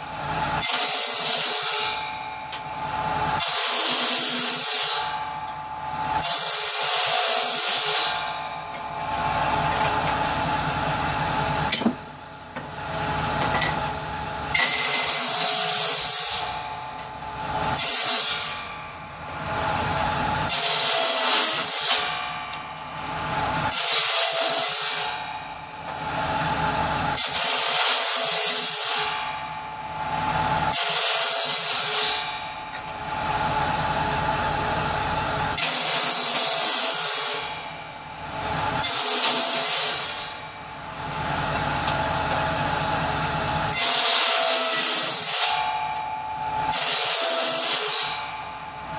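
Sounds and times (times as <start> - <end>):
power saw cutting wood: 0.0 - 48.9.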